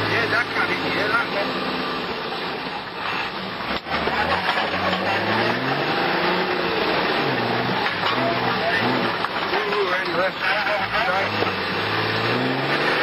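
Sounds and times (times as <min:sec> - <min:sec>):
engine revving inside cab: 0:00.0 - 0:13.0.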